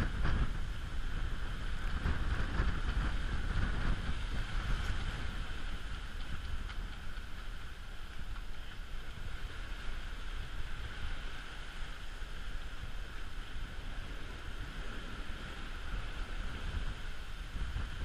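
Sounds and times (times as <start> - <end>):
bow wave rushing along hull: 0.0 - 18.0
wind buffeting microphone: 0.0 - 18.0.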